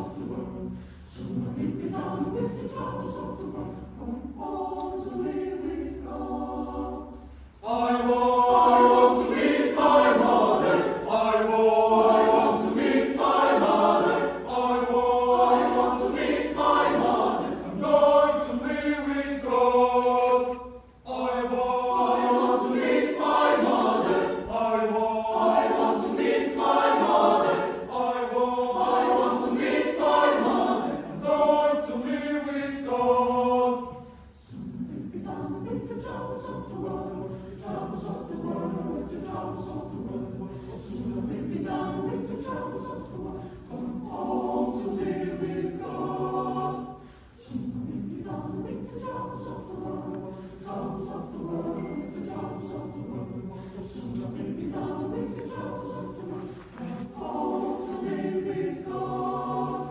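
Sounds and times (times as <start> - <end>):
mixed choir singing a cappella: 0.0 - 59.9.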